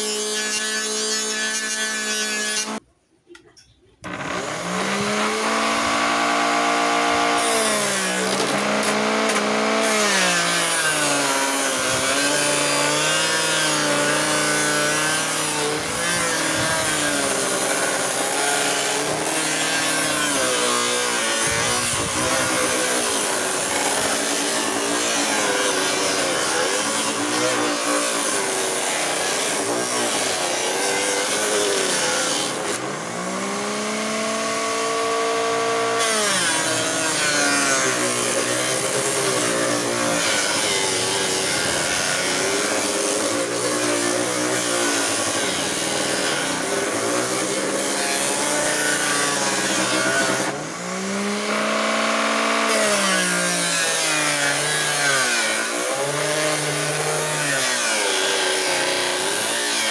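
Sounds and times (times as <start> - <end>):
gritty sanding rasp: 4.2 - 59.9.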